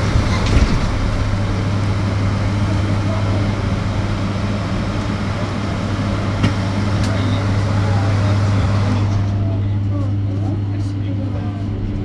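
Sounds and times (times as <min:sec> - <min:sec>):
road and tyre noise: 0:00.0 - 0:10.5
bus cabin hum: 0:00.0 - 0:12.0.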